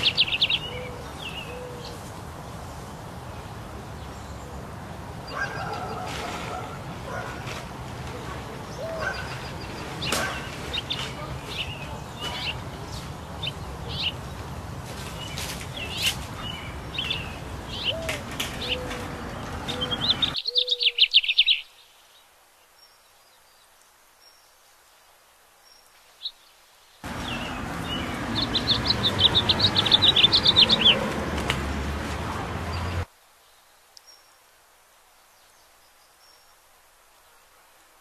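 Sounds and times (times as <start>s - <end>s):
songbirds chirping: 0.0s - 37.8s.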